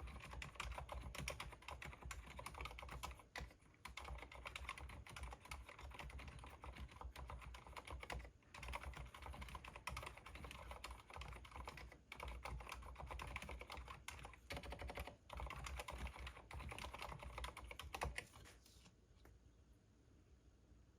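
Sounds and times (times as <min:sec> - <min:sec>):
mechanical keyboard typing: 0:00.0 - 0:18.4.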